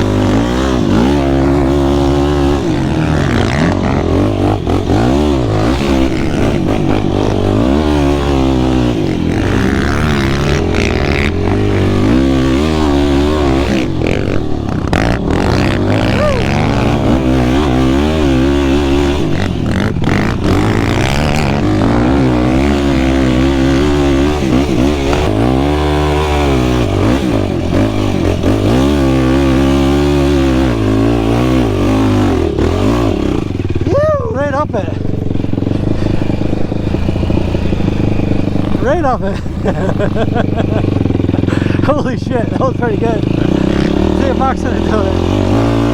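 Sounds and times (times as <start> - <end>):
quad engine revving: 0.0 - 45.9.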